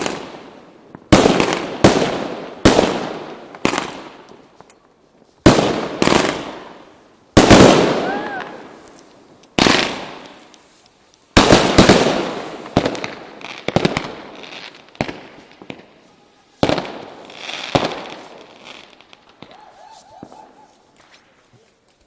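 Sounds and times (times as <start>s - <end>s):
fireworks banging: 0.0s - 4.8s, 5.4s - 21.6s.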